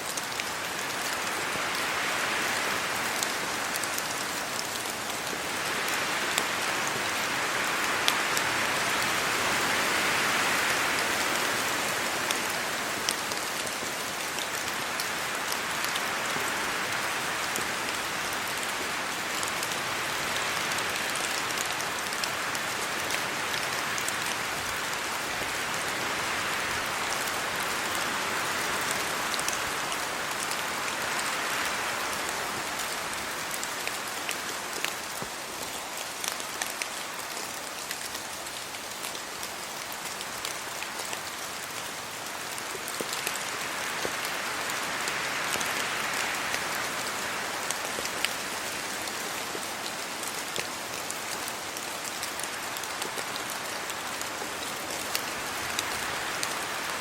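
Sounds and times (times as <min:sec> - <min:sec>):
rain on trees and road: 0:00.0 - 0:57.0.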